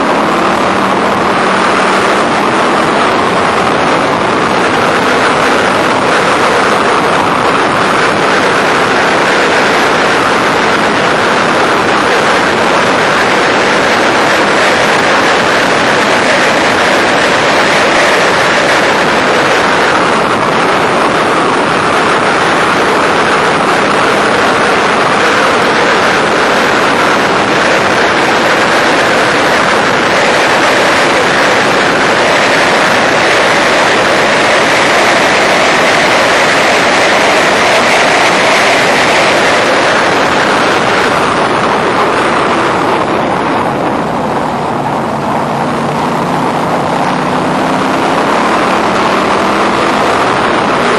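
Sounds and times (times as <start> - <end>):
heavy wind rush: 0.0 - 50.9
race car engine at full throttle: 0.0 - 50.9.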